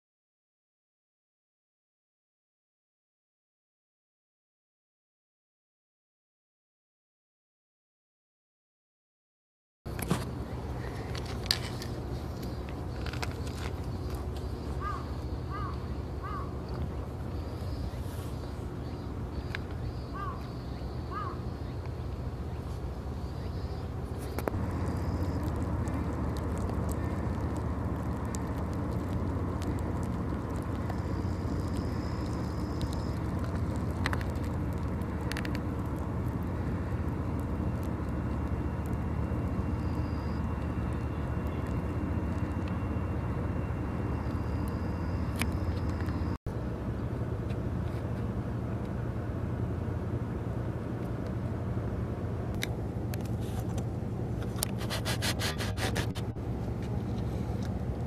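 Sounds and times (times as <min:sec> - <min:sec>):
boat engine drone: 0:09.9 - 0:58.0.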